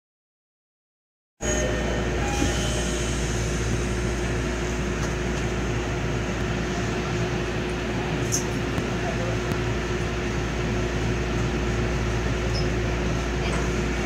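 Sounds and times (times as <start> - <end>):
steady hum: 1.4 - 14.0
air conditioning rush of air: 1.6 - 14.0.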